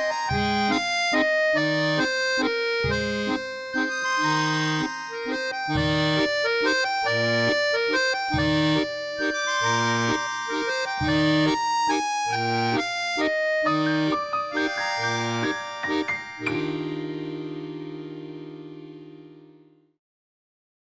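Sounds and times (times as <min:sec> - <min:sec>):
accordion music: 0:00.0 - 0:19.9.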